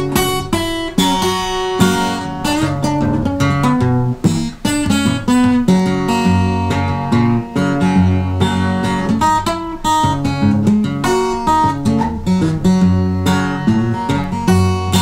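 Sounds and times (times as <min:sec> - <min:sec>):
acoustic blues guitar: 0:00.0 - 0:15.0.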